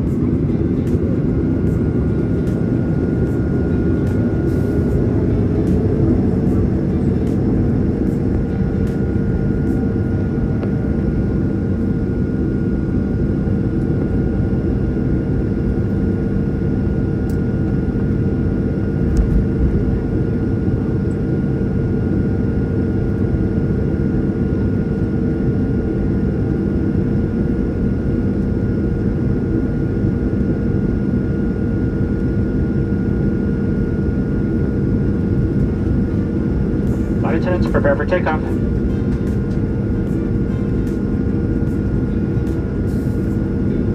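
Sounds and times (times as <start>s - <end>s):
engine whine: 0.0s - 43.9s
jet engines droning: 0.0s - 43.9s.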